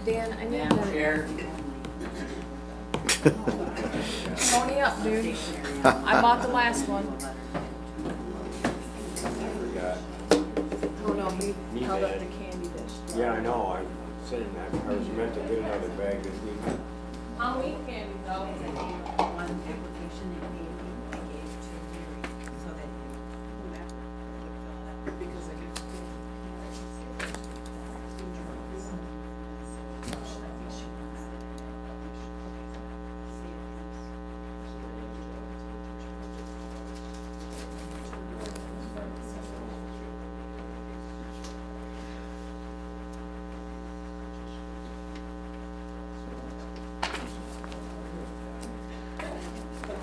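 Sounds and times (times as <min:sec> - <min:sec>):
electrical mains hum: 0:00.0 - 0:50.0
faint voices chatting: 0:00.0 - 0:50.0.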